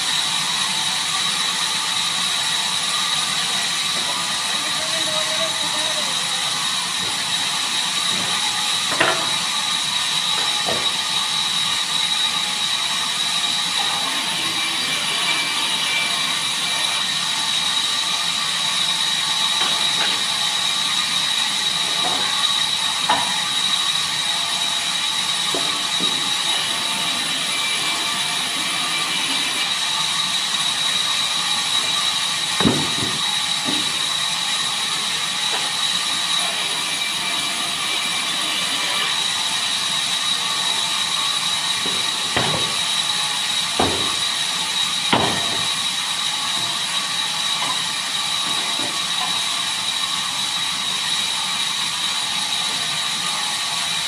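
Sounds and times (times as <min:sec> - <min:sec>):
band saw whining: 0:00.0 - 0:54.0.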